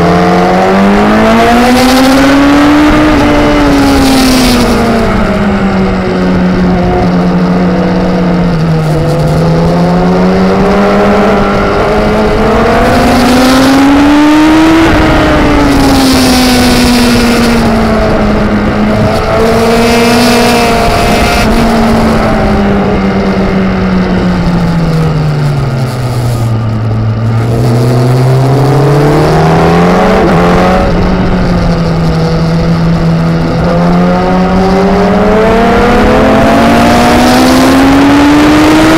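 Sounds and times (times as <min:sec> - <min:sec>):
motorcycle engine at racing speed: 0:00.0 - 0:38.9
rushing wind: 0:00.0 - 0:38.9.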